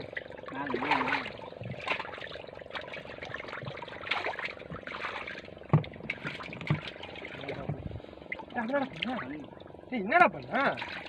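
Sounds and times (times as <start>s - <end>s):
faint steady hum: 0.0s - 11.0s
water splashing against a boat: 0.0s - 11.0s.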